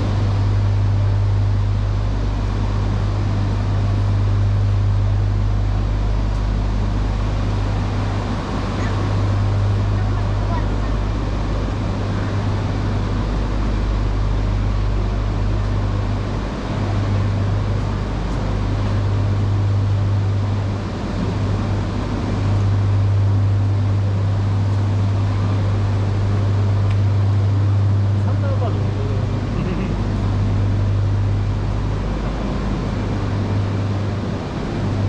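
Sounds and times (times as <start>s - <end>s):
stationary train humming: 0.0s - 35.0s.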